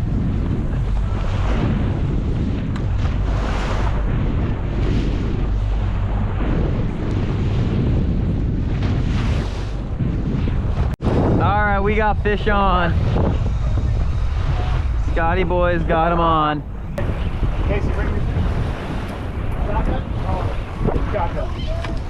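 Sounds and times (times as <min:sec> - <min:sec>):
boat running on water: 0:00.0 - 0:22.0
wind buffeting microphone: 0:00.0 - 0:22.0.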